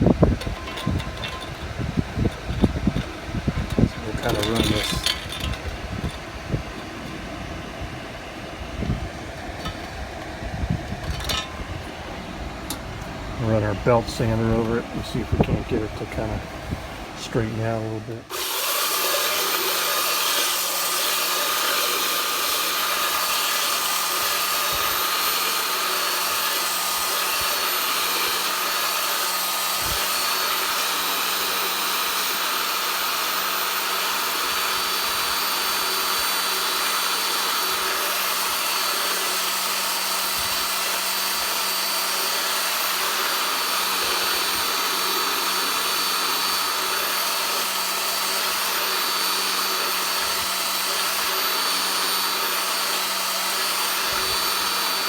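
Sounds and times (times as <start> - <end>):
belt sander grinding metal: 0.0 - 55.0.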